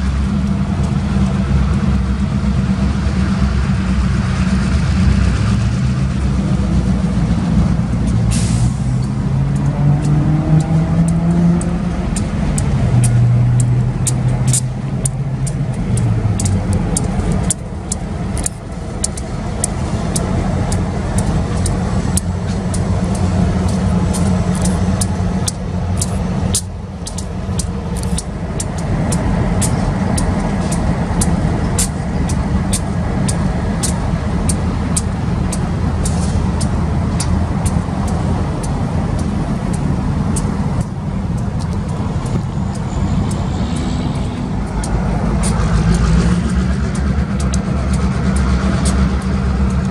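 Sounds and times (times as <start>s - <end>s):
diesel locomotive engines rumbling: 0.0s - 49.9s.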